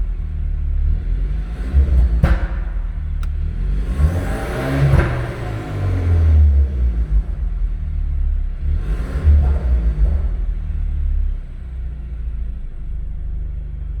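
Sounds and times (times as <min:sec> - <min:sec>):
engine revving: 0:00.0 - 0:12.3
car exhaust rumble: 0:00.0 - 0:14.0.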